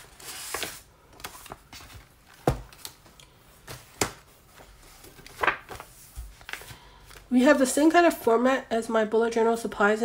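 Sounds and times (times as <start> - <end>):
paper pages rustling: 0.0 - 8.2.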